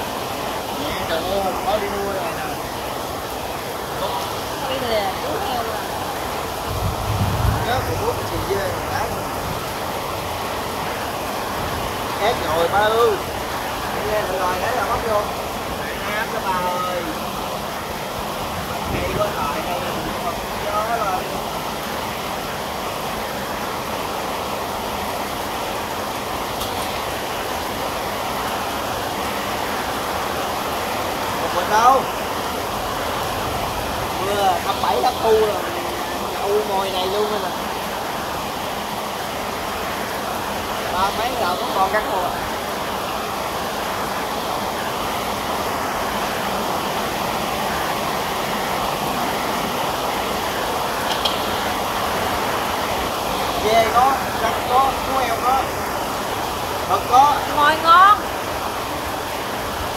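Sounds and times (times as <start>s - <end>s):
rain falling: 0.0s - 59.9s
steady rushing noise: 0.0s - 59.9s.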